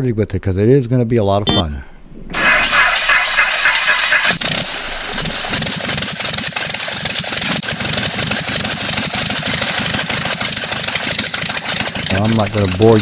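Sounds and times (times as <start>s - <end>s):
aircraft engine idling: 2.4s - 13.0s.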